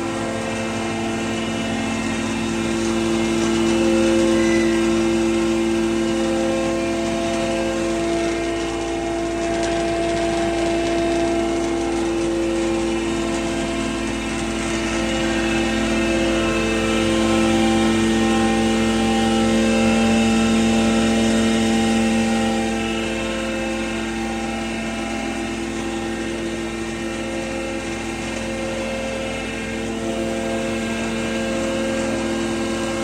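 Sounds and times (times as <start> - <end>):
feed pulveriser machine humming: 0.0 - 33.0.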